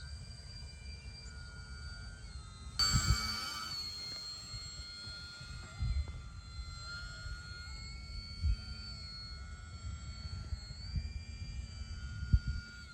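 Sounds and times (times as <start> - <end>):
model plane motor whining: 0.0 - 12.9.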